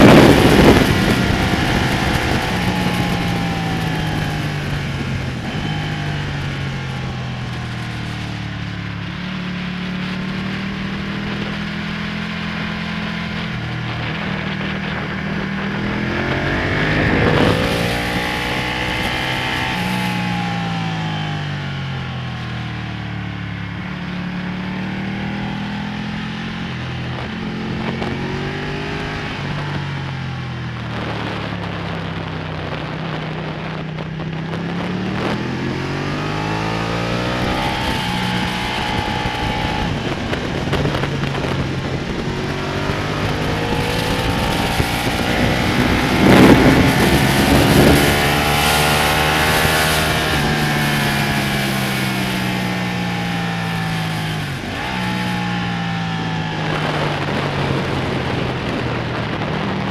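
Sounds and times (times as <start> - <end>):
loud rush of noise: 0.0 - 59.9
motorcycle engine accelerating: 0.0 - 59.9.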